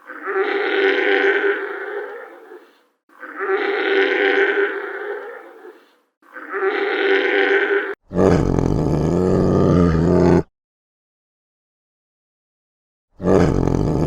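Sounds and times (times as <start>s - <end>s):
deep animal roar: 0.0s - 10.5s, 13.2s - 14.0s.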